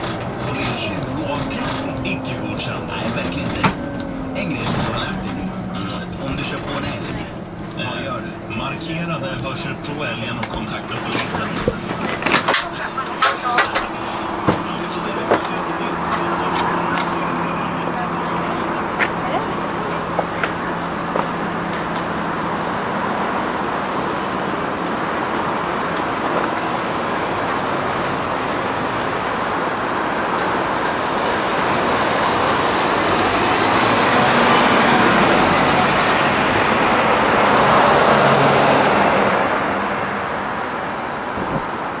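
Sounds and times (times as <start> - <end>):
bus engine and road noise: 0.0 - 42.0.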